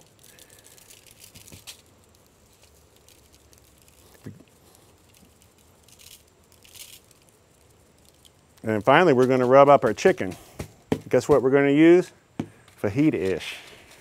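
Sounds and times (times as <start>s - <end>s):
spice granules pattering: 0.0s - 14.0s.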